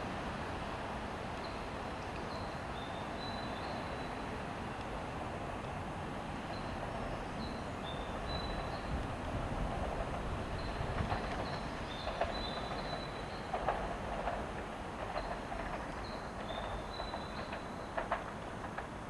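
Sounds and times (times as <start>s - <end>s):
train rail running noise: 0.0s - 19.0s.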